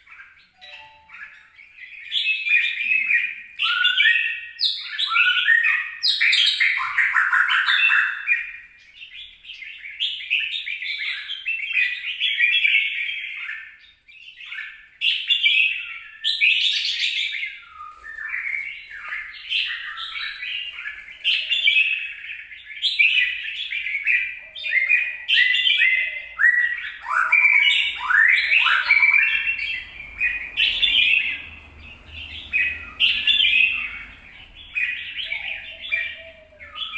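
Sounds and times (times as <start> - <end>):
bird chirping and warbling: 0.0 - 13.1, 15.5 - 36.9.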